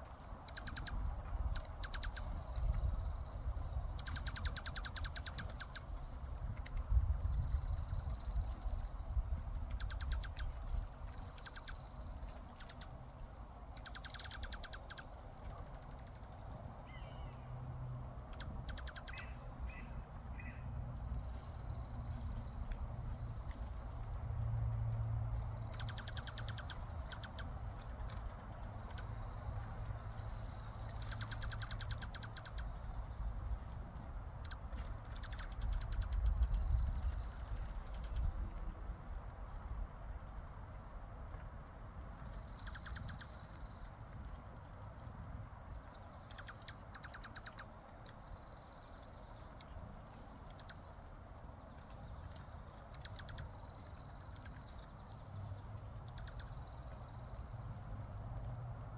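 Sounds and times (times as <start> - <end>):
soft bird chirps: 0.0 - 58.9.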